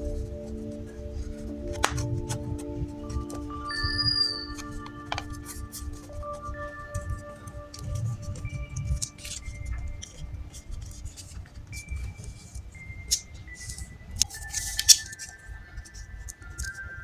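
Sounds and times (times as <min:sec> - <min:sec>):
paper rustling: 0:00.0 - 0:17.0
soft chime-like background music: 0:00.0 - 0:17.0.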